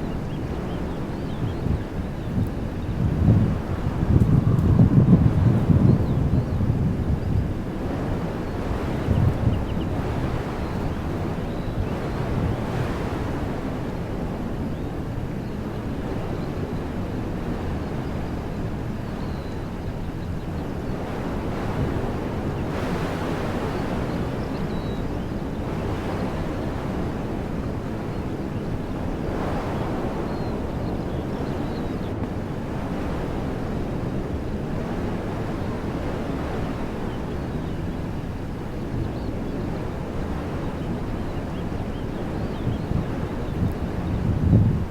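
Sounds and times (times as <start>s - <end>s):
wind blowing through trees: 0.0s - 44.9s
wind buffeting microphone: 0.0s - 44.9s.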